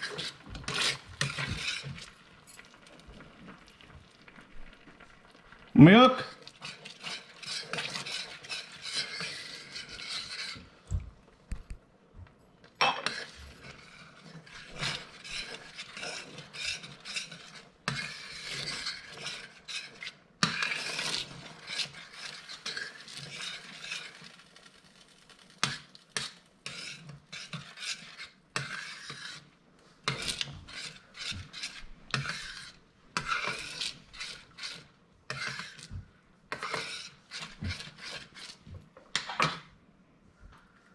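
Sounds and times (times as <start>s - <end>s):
metal spoon scraping frying pan: 0.0s - 2.2s, 6.3s - 10.8s, 12.8s - 39.7s.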